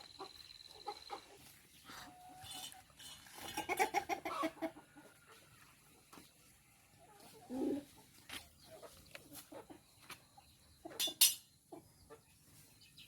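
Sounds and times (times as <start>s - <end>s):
chickens calling softly: 0.0s - 13.0s.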